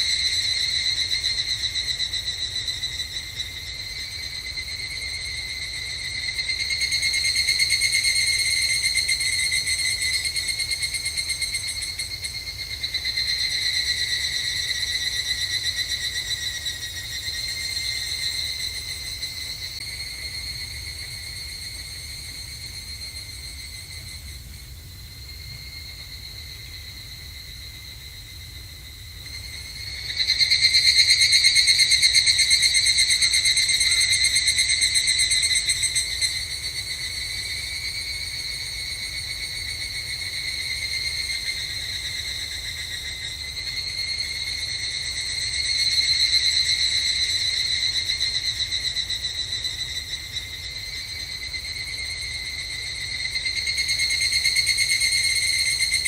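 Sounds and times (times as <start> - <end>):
cicadas trilling in chorus: 0.0 - 56.0.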